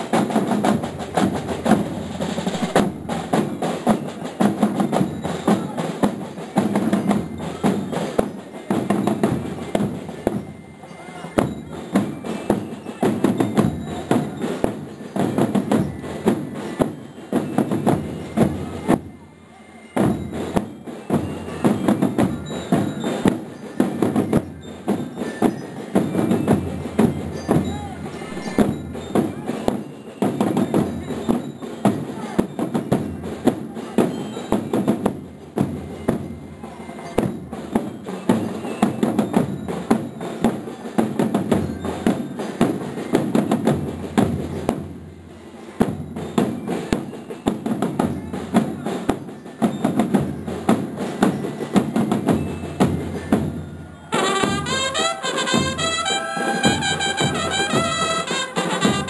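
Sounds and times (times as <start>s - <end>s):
snare drums march rhythm: 0.0s - 59.0s.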